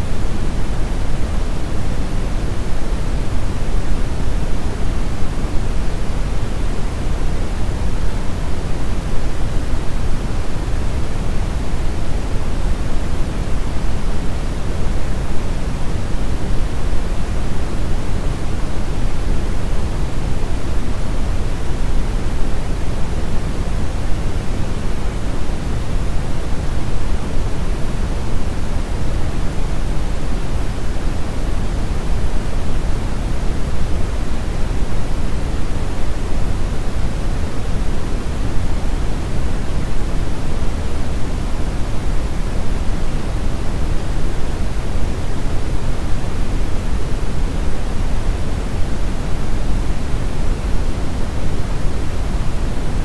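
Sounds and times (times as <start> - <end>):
brown noise rumbling hiss: 0.0 - 53.0.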